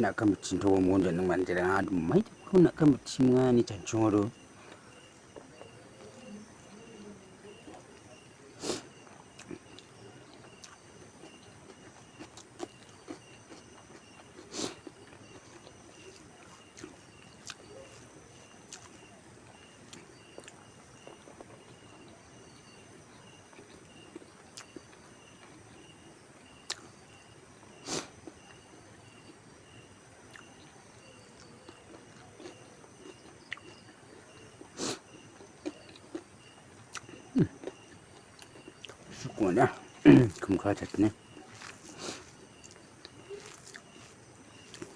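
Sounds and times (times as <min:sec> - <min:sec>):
pulsing high insect chirp: 0:00.0 - 0:44.9.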